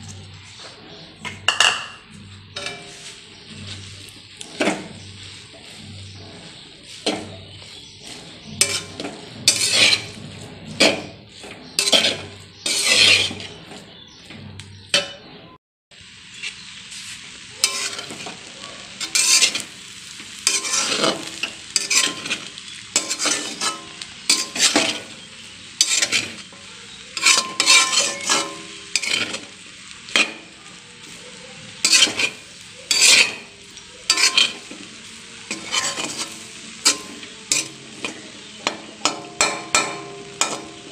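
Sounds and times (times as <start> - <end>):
food sizzling: 0.0 - 15.0, 15.9 - 40.9
spatula scraping metal wok: 0.0 - 40.9.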